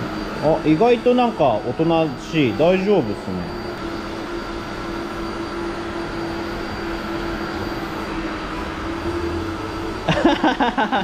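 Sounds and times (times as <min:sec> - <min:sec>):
vacuum cleaner motor whining: 0:00.0 - 0:11.0.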